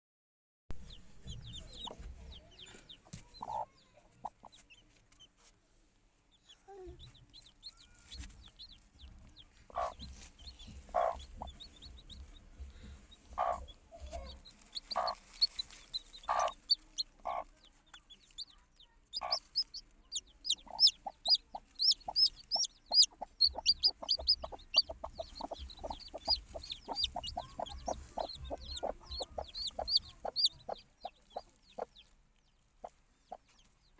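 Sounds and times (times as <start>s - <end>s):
chickens clucking: 0.8s - 5.5s, 6.4s - 33.9s.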